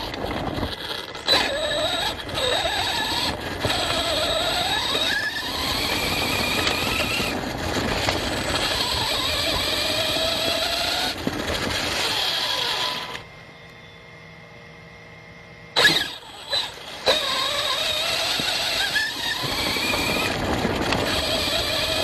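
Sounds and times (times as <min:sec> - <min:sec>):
electric motor whining: 0:00.0 - 0:13.8, 0:15.7 - 0:22.0
rough tyre and chassis noise: 0:00.0 - 0:13.8, 0:15.7 - 0:22.0.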